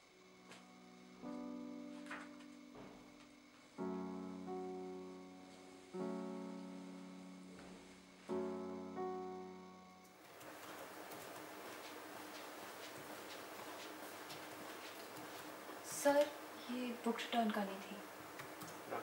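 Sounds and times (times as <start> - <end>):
slow piano chords: 0.0 - 17.3.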